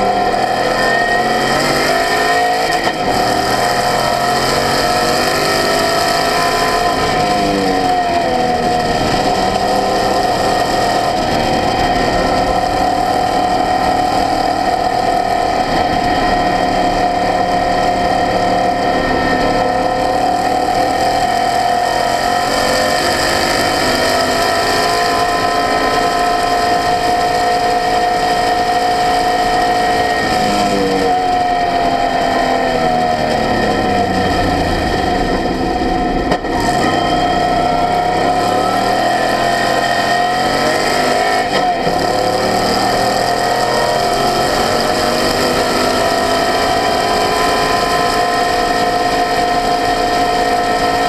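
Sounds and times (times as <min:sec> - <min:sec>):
race car engine: 0:00.0 - 0:51.0.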